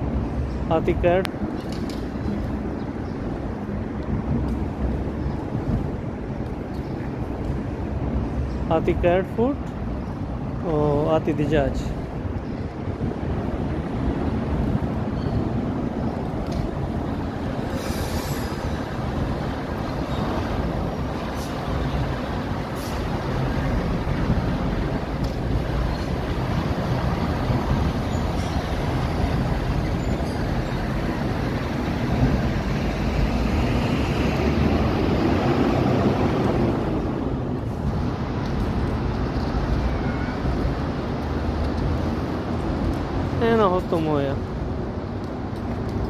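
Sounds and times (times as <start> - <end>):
low rumble of road traffic: 0.0 - 46.0.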